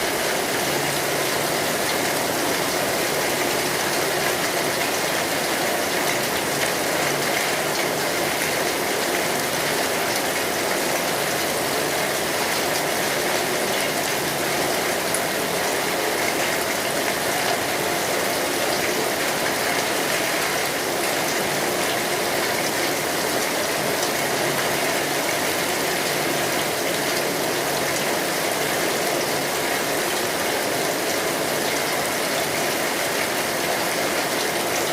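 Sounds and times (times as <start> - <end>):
rain on a metal roof: 0.0 - 34.9.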